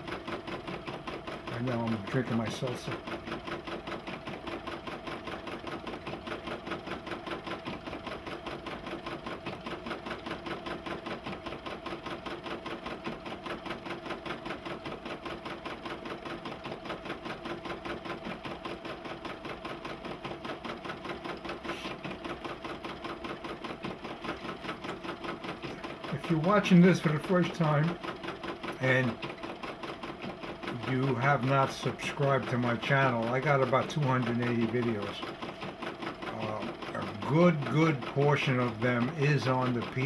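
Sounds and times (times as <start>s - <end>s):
embroidery machine needle chattering: 0.0s - 40.0s.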